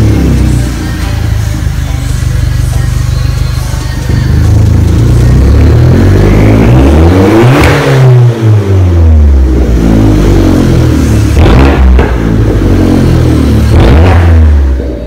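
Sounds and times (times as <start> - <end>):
car engine revving: 0.0 - 2.3, 4.0 - 15.0.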